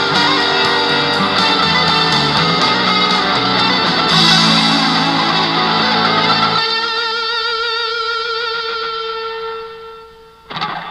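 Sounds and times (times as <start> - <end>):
electric guitar solo: 0.0 - 10.9.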